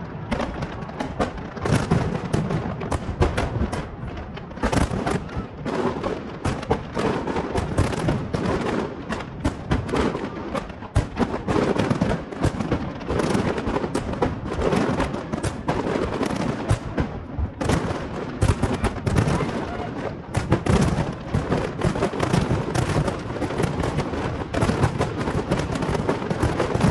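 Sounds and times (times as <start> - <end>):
fireworks bangs and crackling: 0.0 - 26.9.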